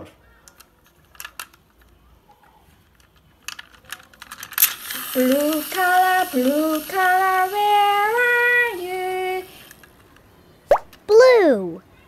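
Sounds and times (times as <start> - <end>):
plastic toy car clicking: 0.4 - 10.2.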